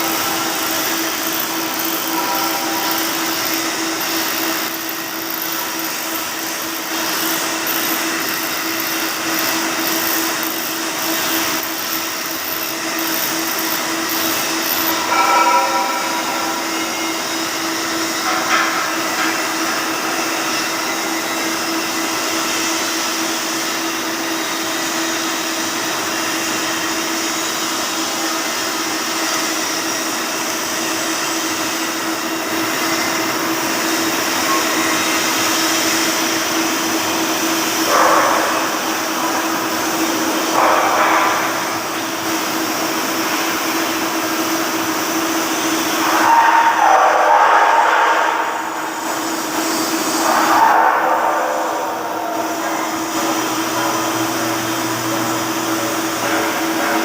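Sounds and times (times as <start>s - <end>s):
welding arc noise: 0.0s - 57.0s.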